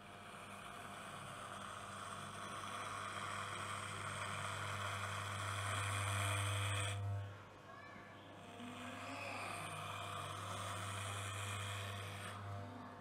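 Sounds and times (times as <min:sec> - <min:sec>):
electric hair clipper buzzing: 0:00.0 - 0:07.2, 0:08.4 - 0:12.6.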